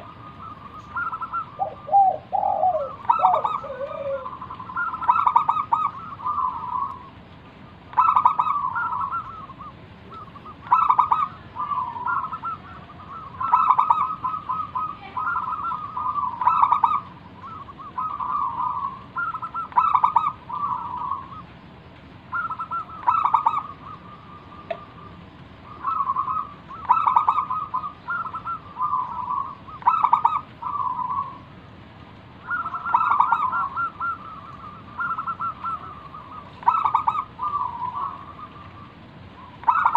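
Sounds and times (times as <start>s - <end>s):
dove cooing: 0.0s - 7.2s, 7.9s - 21.6s, 22.3s - 31.5s, 32.4s - 39.9s.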